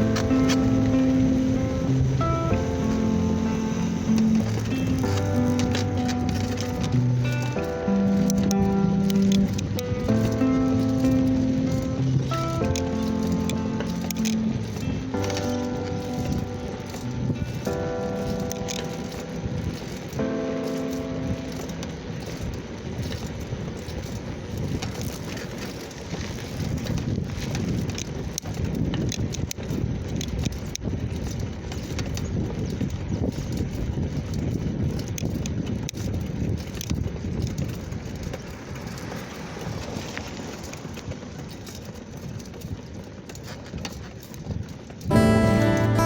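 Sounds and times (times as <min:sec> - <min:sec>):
bicycle rattles and knocks: 0:00.0 - 0:46.0
bicycle tyres crunching on dirt: 0:00.0 - 0:46.0.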